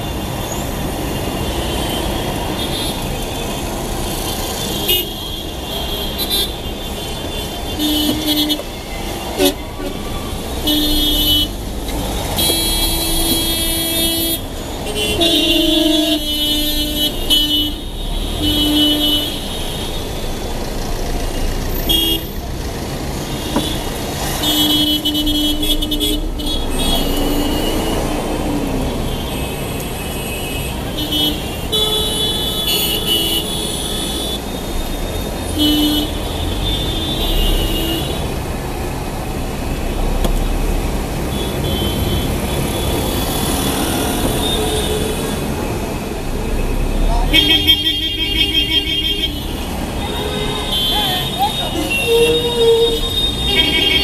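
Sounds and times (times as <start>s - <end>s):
vehicle horns honking: 0.0s - 20.4s, 21.7s - 22.5s, 23.3s - 28.3s, 28.9s - 38.3s, 41.2s - 45.8s, 46.5s - 54.0s
rumble of engines and tyres: 0.0s - 54.0s.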